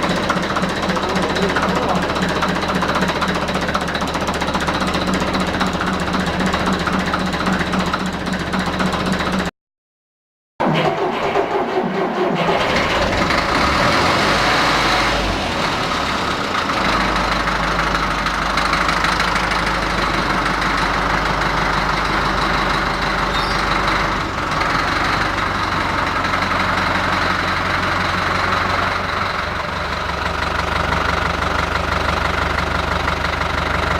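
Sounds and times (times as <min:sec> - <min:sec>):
diesel engine running: 0:00.0 - 0:09.5, 0:10.6 - 0:33.9.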